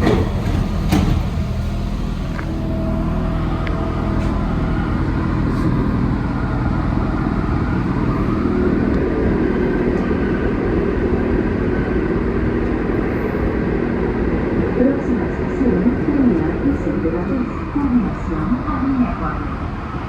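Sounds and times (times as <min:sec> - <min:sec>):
metro train rolling rumble: 0:00.0 - 0:20.0
traction equipment hum: 0:00.0 - 0:20.0
rising whine: 0:01.6 - 0:19.0.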